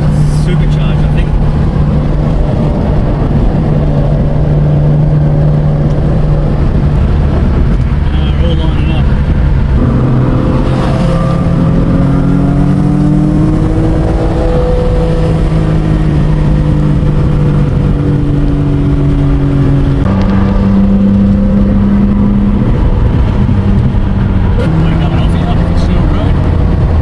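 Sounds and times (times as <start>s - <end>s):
race car engine running: 0.0s - 27.0s.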